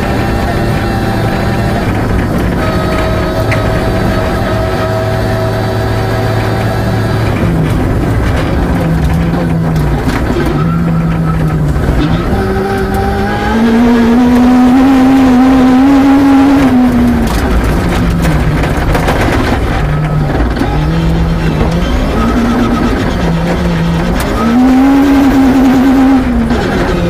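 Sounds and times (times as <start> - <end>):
gravel road noise: 0.0 - 27.0
rally car engine revving: 0.0 - 27.0.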